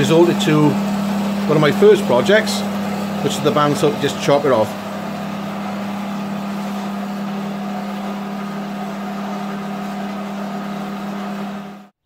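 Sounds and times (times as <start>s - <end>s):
metal-cutting band saw running: 0.0s - 12.0s.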